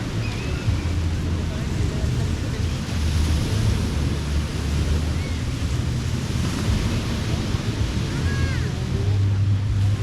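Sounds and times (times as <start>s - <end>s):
ocean surf breaking: 0.0s - 10.0s
wind on microphone: 0.0s - 10.0s.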